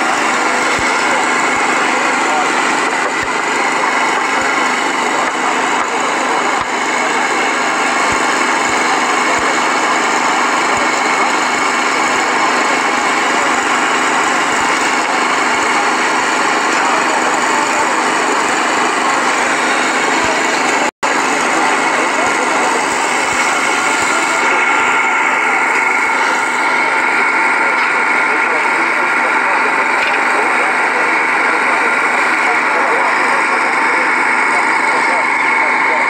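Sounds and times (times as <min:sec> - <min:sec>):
crowd voices: 0:00.0 - 0:36.0
heavy machine engine running: 0:00.0 - 0:36.0.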